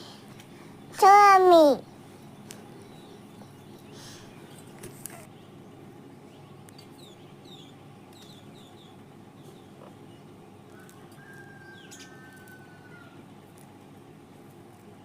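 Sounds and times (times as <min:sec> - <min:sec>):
low background hum: 0:00.0 - 0:15.0
small bird chirping: 0:00.2 - 0:13.2.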